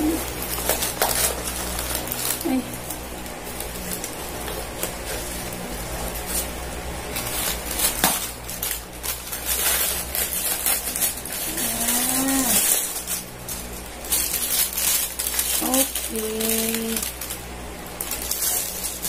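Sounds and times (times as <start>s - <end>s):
plastic pouch crinkling and tearing: 0.0s - 19.0s.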